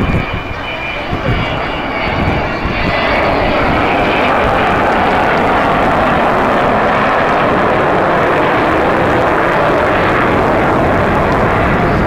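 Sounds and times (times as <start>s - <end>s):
jet engines roaring in flight: 0.0s - 12.0s.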